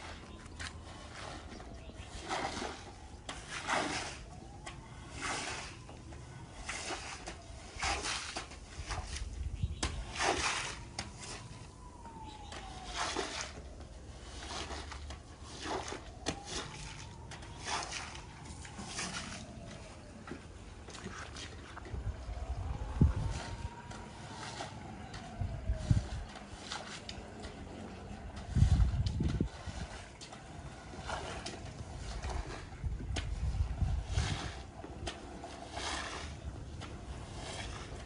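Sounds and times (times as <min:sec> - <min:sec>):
squeegee swishing on wet rug: 0:00.0 - 0:38.0.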